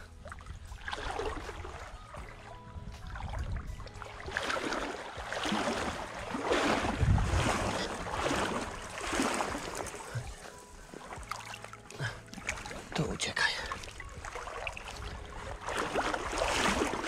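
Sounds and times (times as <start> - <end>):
river water sloshing: 0.0 - 17.0.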